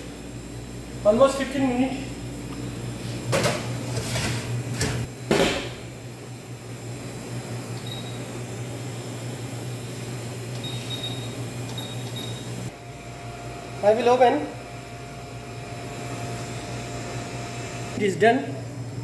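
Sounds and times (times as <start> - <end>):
oven humming: 0.0 - 19.0.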